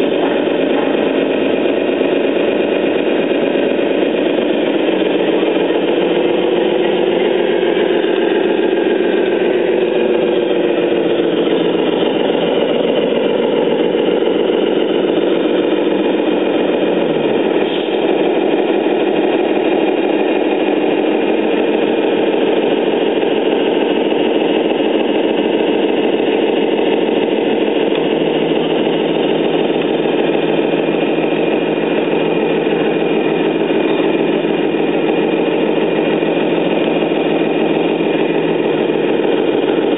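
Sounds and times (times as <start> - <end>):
model truck engine drone: 0.0 - 39.9.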